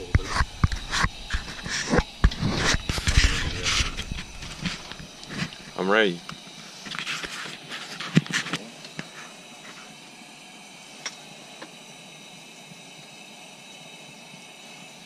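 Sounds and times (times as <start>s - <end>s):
burning propane hissing: 0.0s - 15.0s.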